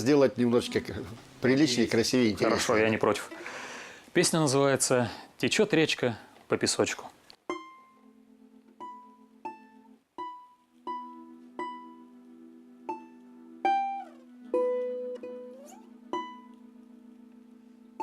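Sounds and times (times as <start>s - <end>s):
balalaika plucked notes: 0.0s - 4.0s, 7.4s - 18.0s.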